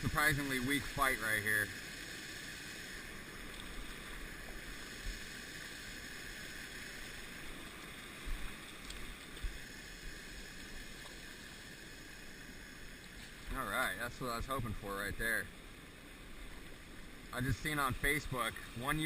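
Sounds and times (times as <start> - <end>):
creek water rushing: 0.0 - 19.0.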